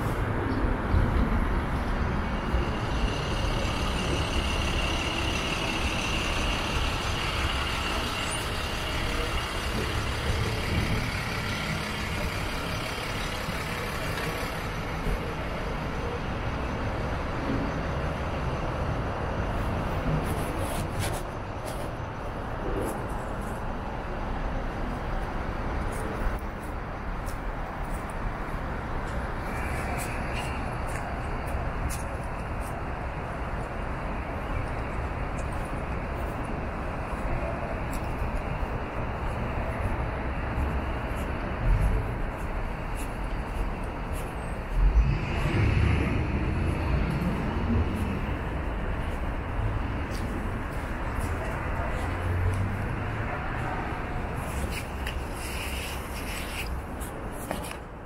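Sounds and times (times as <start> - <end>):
rumble of passing traffic: 0.0 - 58.0.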